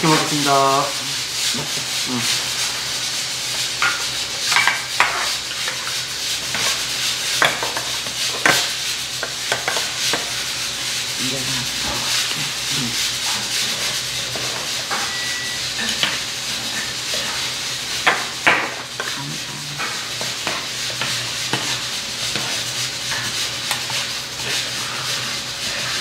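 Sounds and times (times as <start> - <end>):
spoons scraping in pots: 0.0 - 26.0.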